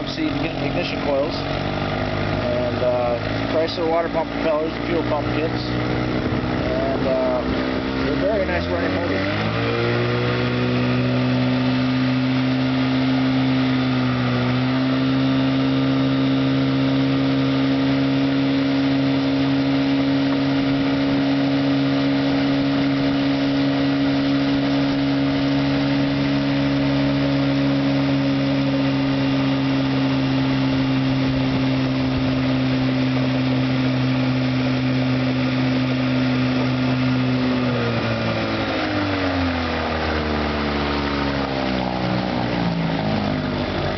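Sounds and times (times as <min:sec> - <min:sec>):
outboard motor running: 0:00.0 - 0:43.9.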